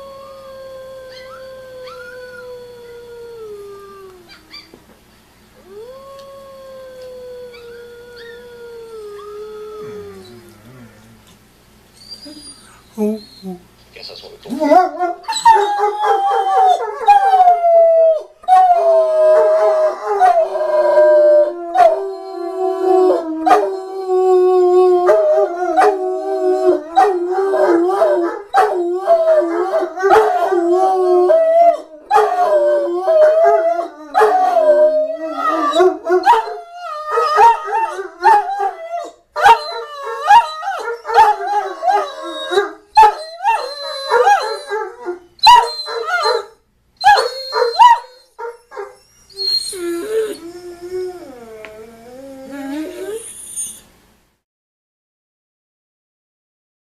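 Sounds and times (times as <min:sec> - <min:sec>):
dog howling and yipping: 0:01.0 - 0:02.6, 0:05.7 - 0:10.4, 0:14.5 - 0:53.8.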